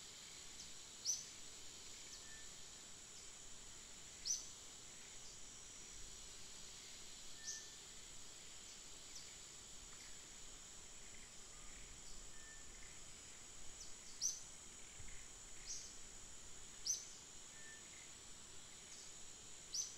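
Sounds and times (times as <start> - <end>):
high insect drone: 0.0 - 19.9.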